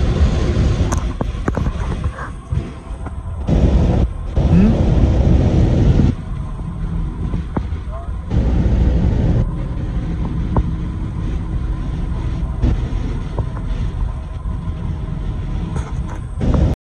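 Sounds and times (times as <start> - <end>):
engine and road noise in car: 0.0 - 16.8.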